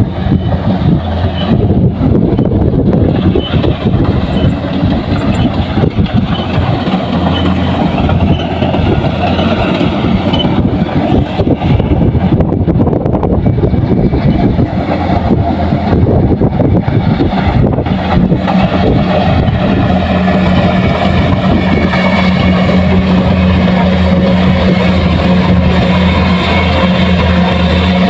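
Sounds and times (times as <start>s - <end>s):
combine harvester engine running: 0.0s - 28.0s.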